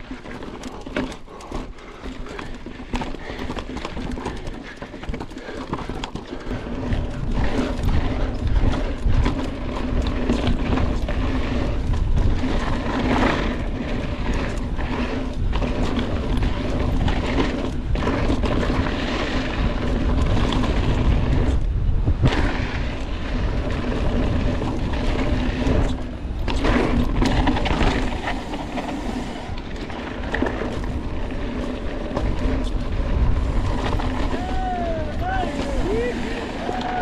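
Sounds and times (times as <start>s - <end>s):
bike rattling on dirt trail: 0.0s - 37.0s
wind on microphone: 5.8s - 37.0s.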